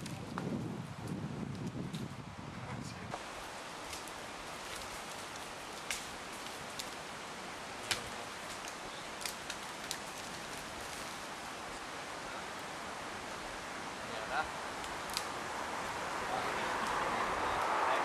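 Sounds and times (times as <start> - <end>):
forest background hiss: 2.2 - 18.0.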